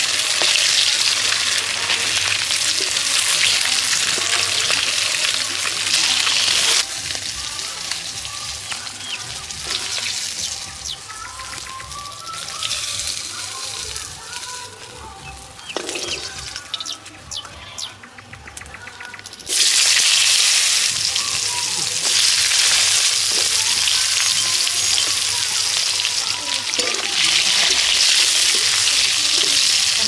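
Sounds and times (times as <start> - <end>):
fish sizzling in hot oil: 0.0 - 16.9, 19.5 - 30.0.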